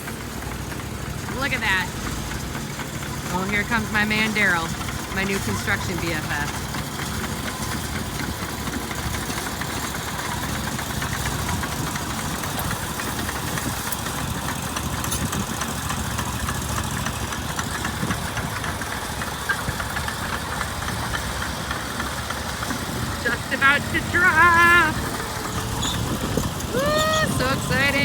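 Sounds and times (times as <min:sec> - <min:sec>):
crane engine running: 0:00.0 - 0:28.0.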